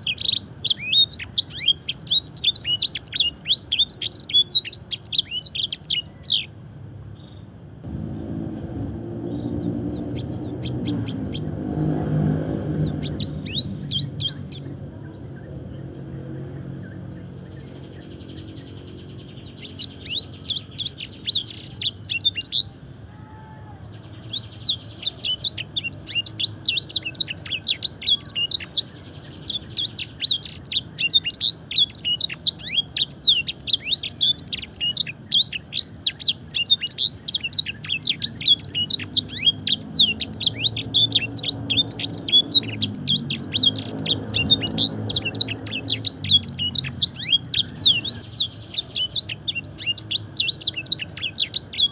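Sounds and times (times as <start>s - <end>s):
canary singing: 0.0s - 6.6s, 8.6s - 51.9s.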